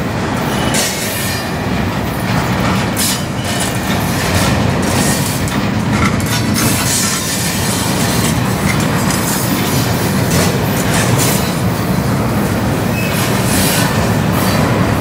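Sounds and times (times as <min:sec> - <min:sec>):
steel wheels rumbling on rail: 0:00.0 - 0:15.0
wheels clacking over rail joints: 0:00.6 - 0:15.0.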